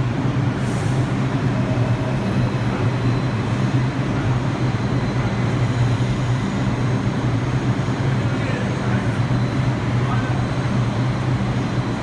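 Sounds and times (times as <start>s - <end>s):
subway train motor hum: 0.0s - 12.0s.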